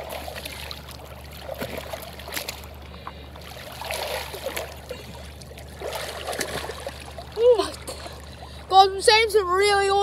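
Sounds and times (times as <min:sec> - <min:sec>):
water sloshing and splashing: 0:00.0 - 0:10.0.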